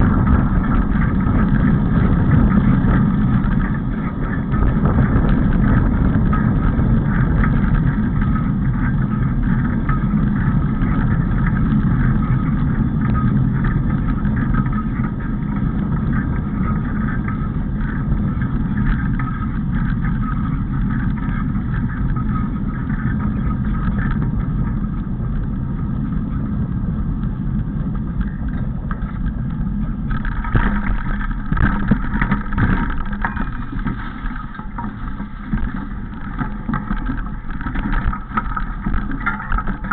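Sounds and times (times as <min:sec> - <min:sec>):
bicycle tyres rolling over gravel: 0:00.0 - 0:39.9
bike knocks and rattles: 0:00.0 - 0:39.9
wind rumbling on microphone: 0:00.0 - 0:39.9.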